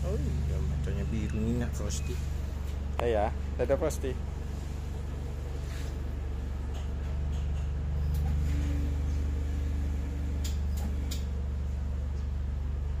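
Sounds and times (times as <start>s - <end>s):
low rumbling hum with flutter: 0.0s - 13.0s.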